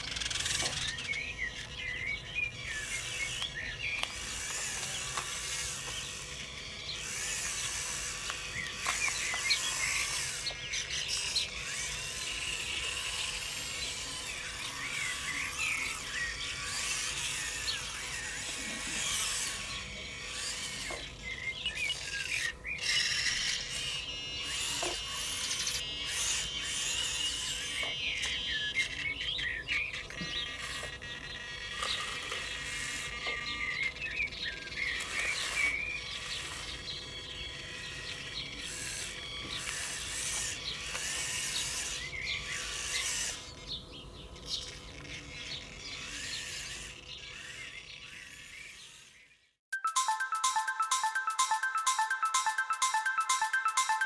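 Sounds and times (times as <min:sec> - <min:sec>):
birds singing and chirping: 0:00.0 - 0:49.3.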